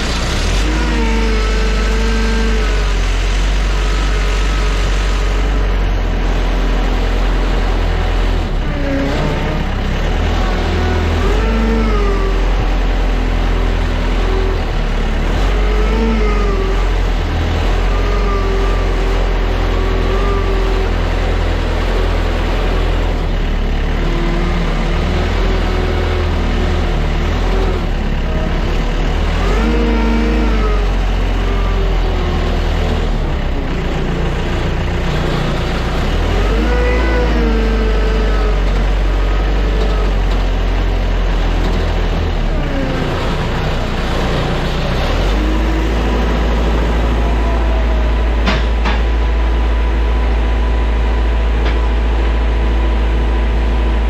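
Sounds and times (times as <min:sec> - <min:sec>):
loud steady low hum: 0:00.0 - 0:54.0
vehicle engines revving: 0:00.0 - 0:54.0.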